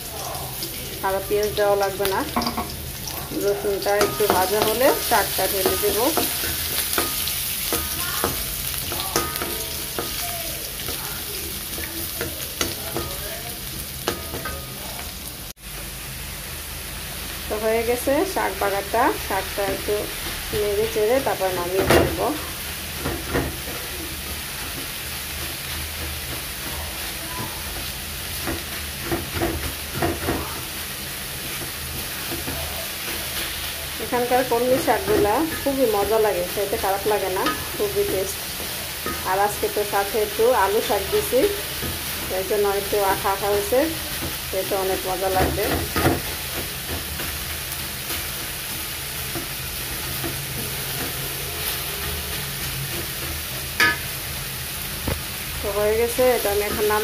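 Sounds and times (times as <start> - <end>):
greens sizzling in hot oil: 0.0 - 57.0
spatula scraping pan: 1.6 - 15.1, 18.2 - 54.8.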